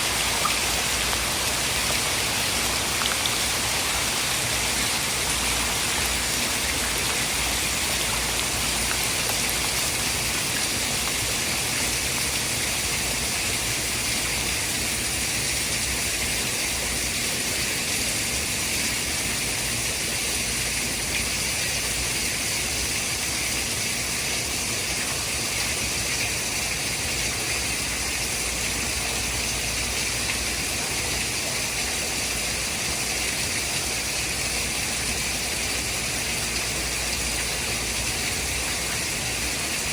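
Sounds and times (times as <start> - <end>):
rushing water hiss: 0.0 - 39.9.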